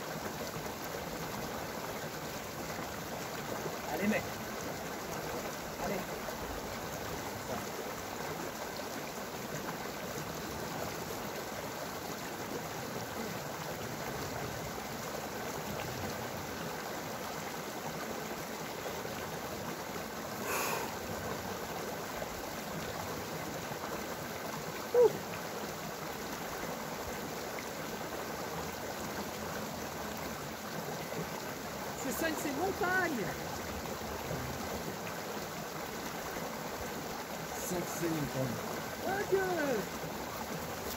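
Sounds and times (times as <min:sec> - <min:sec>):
mountain stream running: 0:00.0 - 0:40.9.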